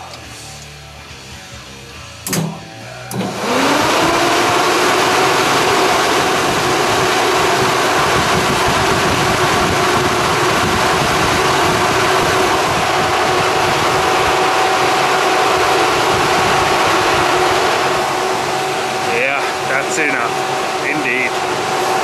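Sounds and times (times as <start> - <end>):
cooling fans whirring: 0.0 - 22.0.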